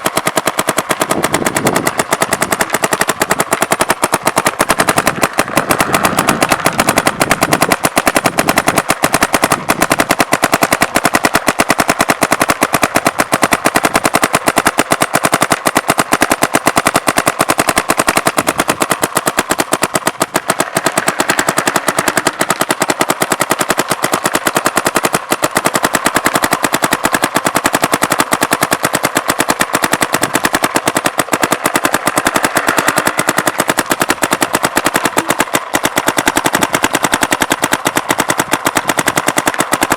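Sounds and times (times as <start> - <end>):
paintball marker firing rapid pops: 0.0 - 39.9.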